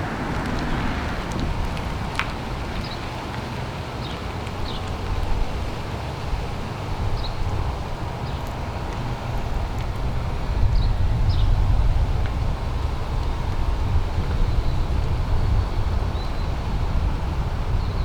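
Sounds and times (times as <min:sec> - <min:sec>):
wind buffeting microphone: 0:00.0 - 0:08.0, 0:09.1 - 0:18.0.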